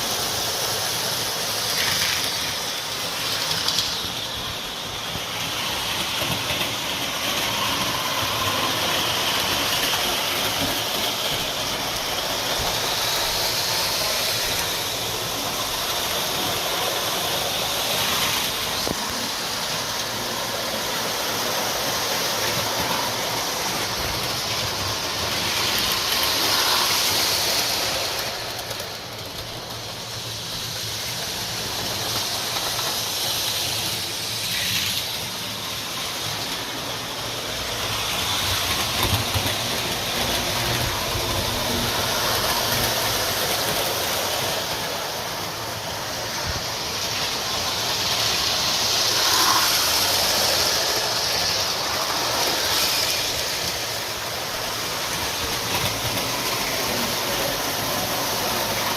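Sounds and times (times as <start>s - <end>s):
model train running on track: 0.0s - 58.9s.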